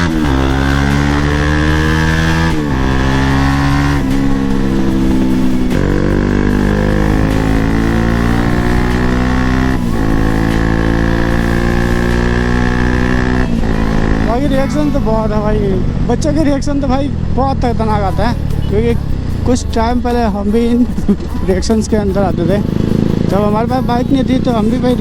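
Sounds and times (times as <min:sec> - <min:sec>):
motorcycle engine shifting gears: 0:00.0 - 0:25.0.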